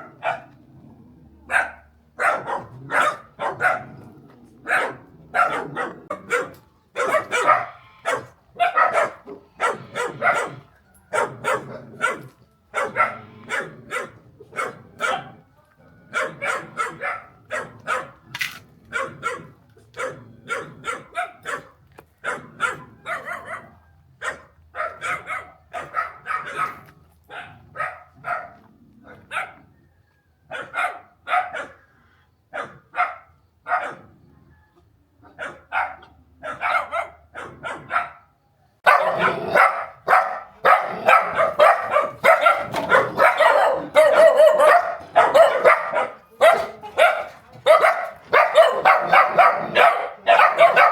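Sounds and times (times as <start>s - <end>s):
dog barking: 0.0s - 0.6s, 1.5s - 4.0s, 4.6s - 15.4s, 16.1s - 18.2s, 18.9s - 29.8s, 30.5s - 31.9s, 32.5s - 50.9s.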